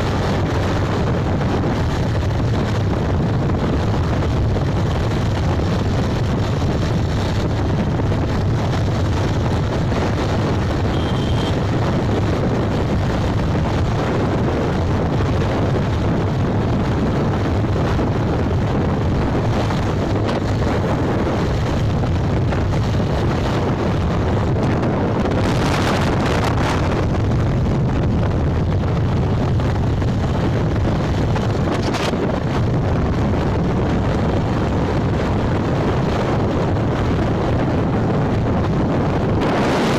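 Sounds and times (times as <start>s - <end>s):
motorbike engine and road noise: 0.0s - 39.9s
wind rushing over microphone: 0.0s - 39.9s.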